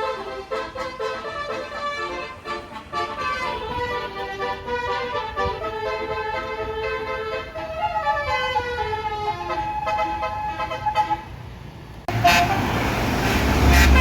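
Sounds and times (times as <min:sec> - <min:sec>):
multi-tone bus horn melody: 0:00.0 - 0:11.5, 0:12.1 - 0:14.0.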